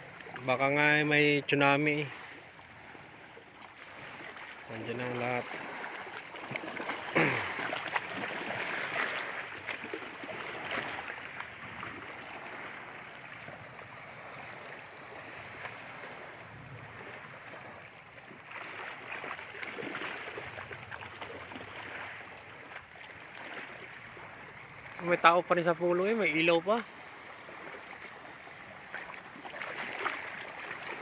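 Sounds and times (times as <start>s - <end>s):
waves washing against shore: 0.0s - 31.0s
wind: 0.0s - 31.0s.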